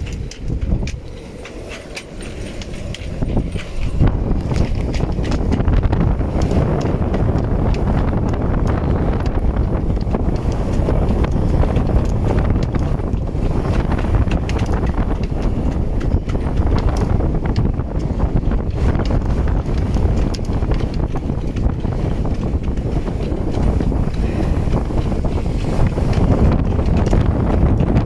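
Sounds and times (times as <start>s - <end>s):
gusty wind buffeting microphone: 0.0s - 28.0s.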